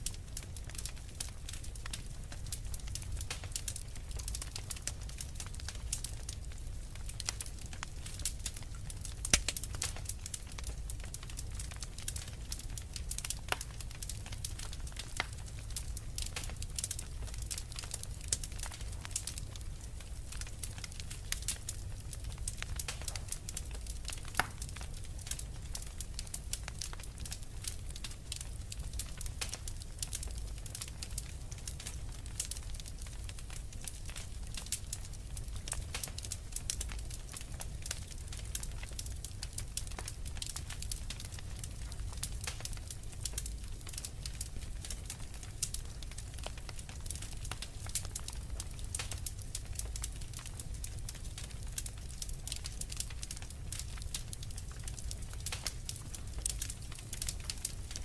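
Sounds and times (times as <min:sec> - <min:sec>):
low steady fire rumble: 0:00.0 - 0:58.0
wood fire crackling: 0:00.0 - 0:58.0.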